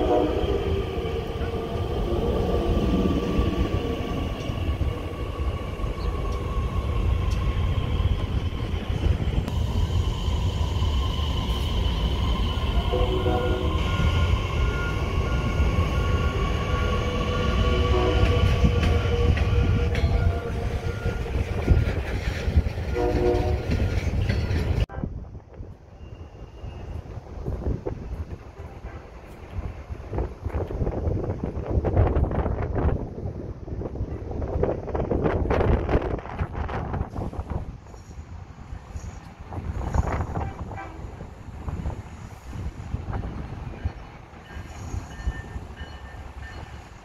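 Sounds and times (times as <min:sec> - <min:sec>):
train wheels rumbling on rail: 0:00.0 - 0:47.0
train whine: 0:00.0 - 0:47.0.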